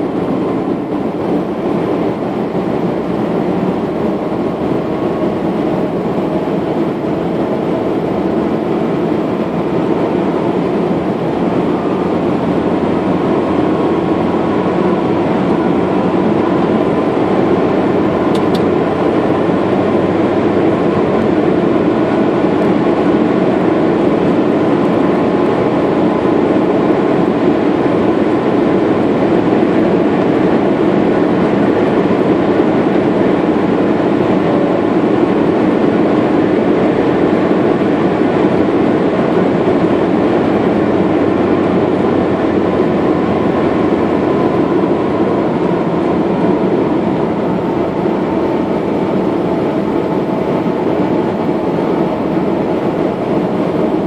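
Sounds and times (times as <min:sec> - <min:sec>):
vehicle road and engine rumble: 0:00.0 - 0:54.0.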